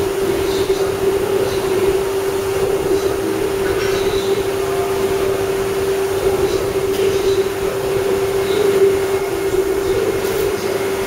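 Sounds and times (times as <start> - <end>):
cnc router whining: 0.0 - 11.0
mechanical hum: 0.0 - 11.0.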